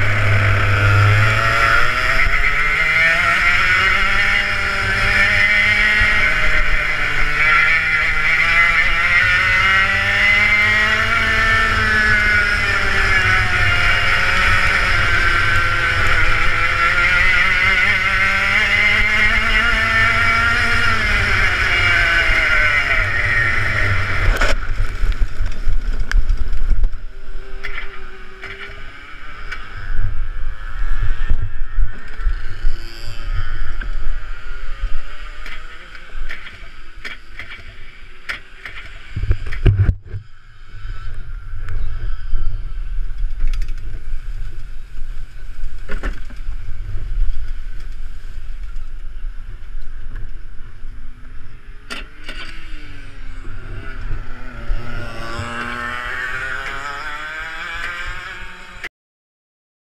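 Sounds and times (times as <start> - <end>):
kart engine running hard: 0.0 - 44.8, 51.1 - 58.9.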